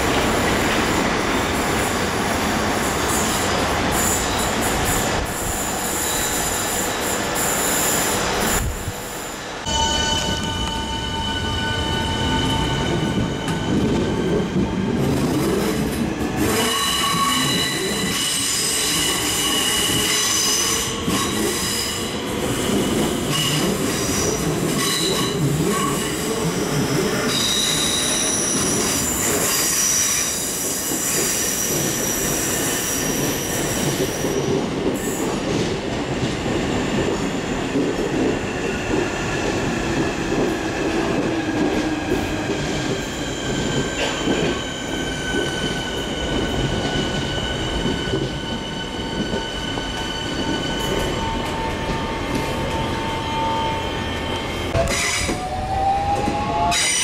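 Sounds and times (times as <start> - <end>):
train wheels squealing: 2.8 - 15.2, 16.4 - 35.5, 40.6 - 57.0.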